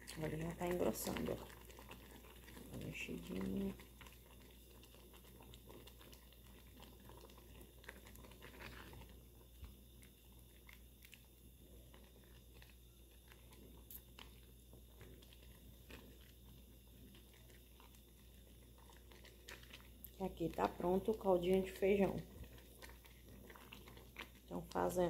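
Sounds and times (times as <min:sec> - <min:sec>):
low steady hum: 0:00.0 - 0:25.0
spatula stirring in a pot: 0:00.0 - 0:25.0.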